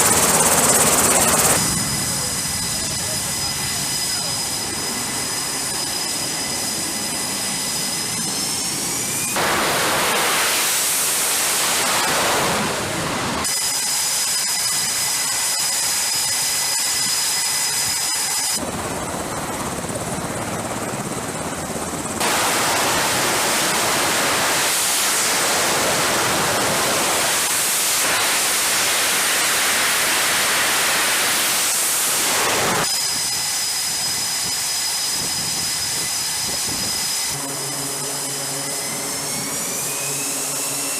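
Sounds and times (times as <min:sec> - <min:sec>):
dense jet roar: 0:00.0 - 0:40.9
high turbine whine: 0:00.0 - 0:40.9.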